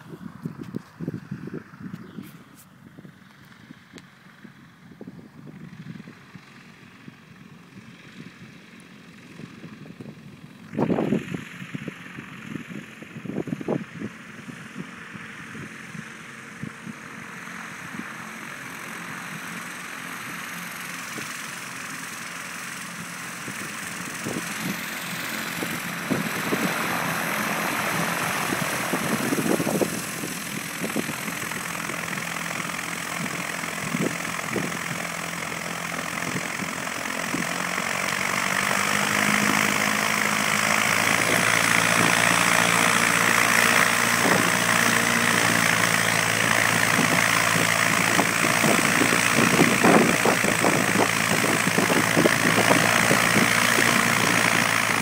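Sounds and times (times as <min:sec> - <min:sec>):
light aircraft engine taxiing: 0:00.0 - 0:55.0.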